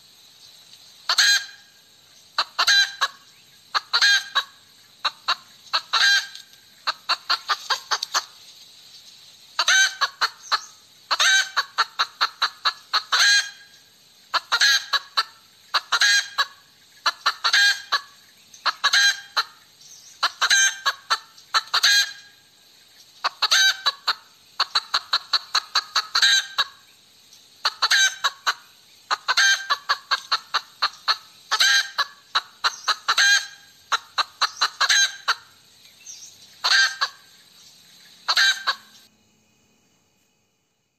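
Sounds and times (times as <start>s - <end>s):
hen cackling: 1.1s - 8.4s, 9.6s - 26.9s, 27.6s - 39.1s.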